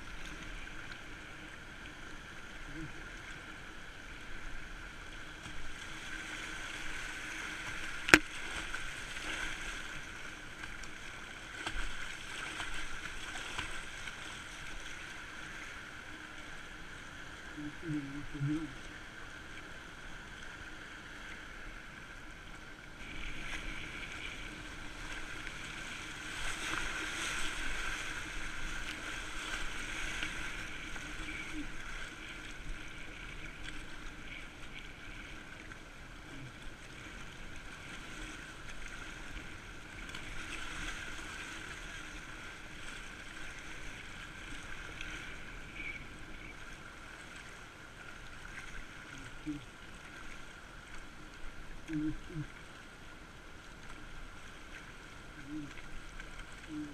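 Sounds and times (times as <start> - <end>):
river current rushing and splashing: 0.0 - 56.9.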